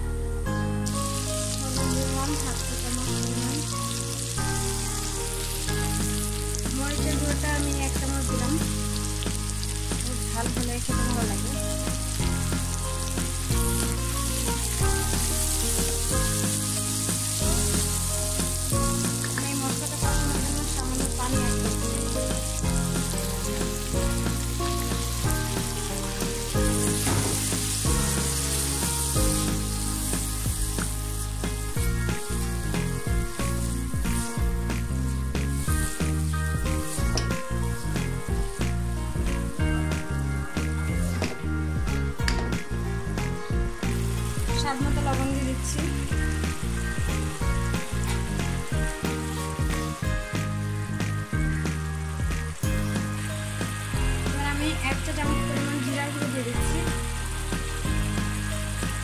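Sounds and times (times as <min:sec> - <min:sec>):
background music with bass line: 0:00.0 - 0:59.0
vegetables sizzling in oil: 0:00.8 - 0:59.0.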